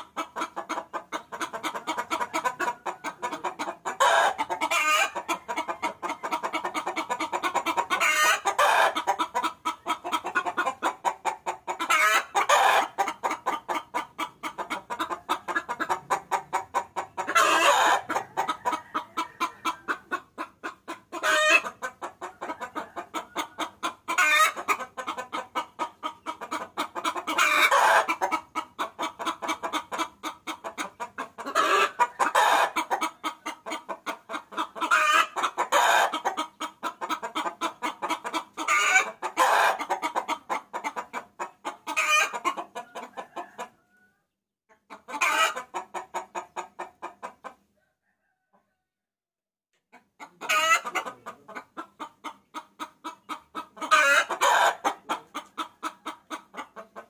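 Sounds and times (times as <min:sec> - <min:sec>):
hen cackling: 0:00.0 - 0:43.9, 0:44.9 - 0:47.6, 0:49.9 - 0:57.0
hen clucking: 0:00.0 - 0:48.8, 0:49.8 - 0:57.0.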